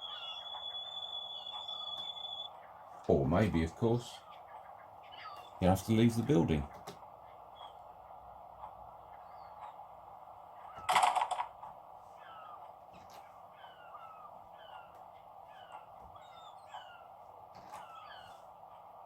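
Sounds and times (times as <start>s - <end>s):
small birds chirping: 0.0s - 19.0s
steady background hiss: 0.0s - 19.0s.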